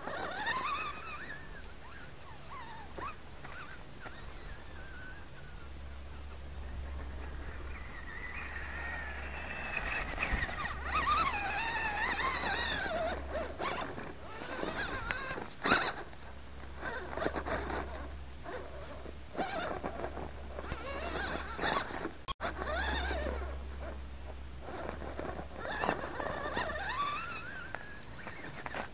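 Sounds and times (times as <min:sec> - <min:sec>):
rc car motor whining: 0:00.0 - 0:28.9.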